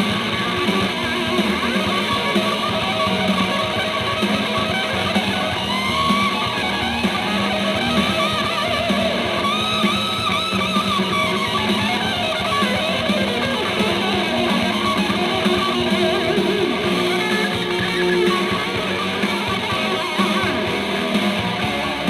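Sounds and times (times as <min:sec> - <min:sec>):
hard rock with electric guitars: 0:00.0 - 0:22.0.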